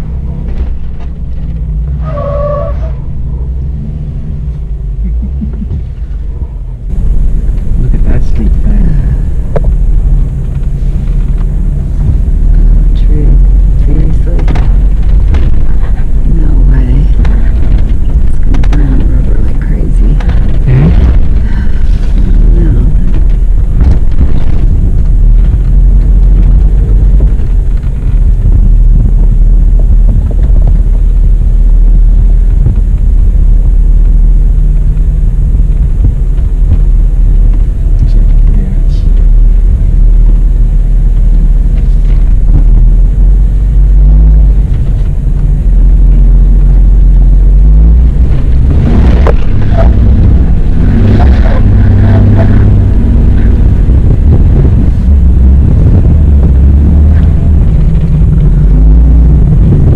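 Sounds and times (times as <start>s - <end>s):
engine low rumble: 0.0s - 59.9s.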